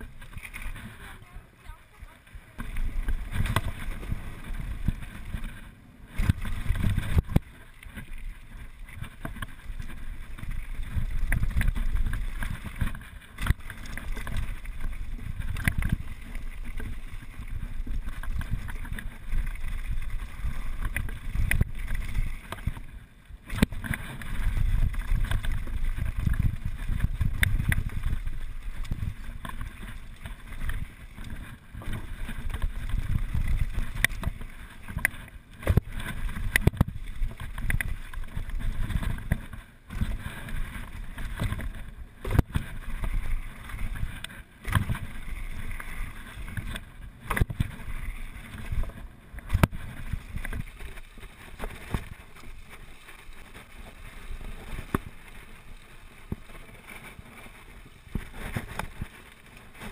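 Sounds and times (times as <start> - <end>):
bike clicking and rattling: 0.0 - 1.2, 2.6 - 59.9
wind rumbling on microphone: 0.0 - 59.9.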